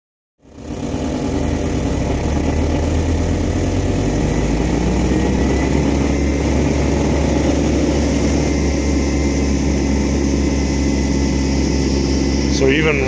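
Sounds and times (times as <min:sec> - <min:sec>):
engine droning: 0:00.4 - 0:13.0.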